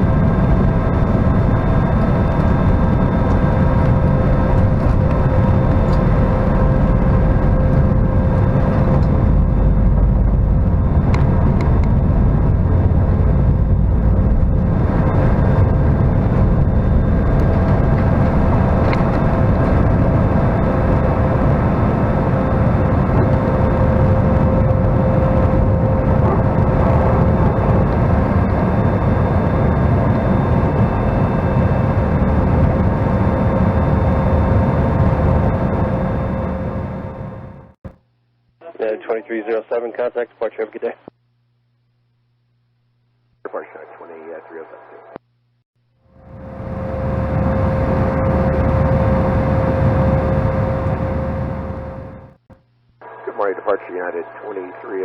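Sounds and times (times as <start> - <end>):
jet engine cabin rumble: 0.0 - 37.8, 46.2 - 55.0
whining fan tones: 0.0 - 37.8, 46.0 - 53.7.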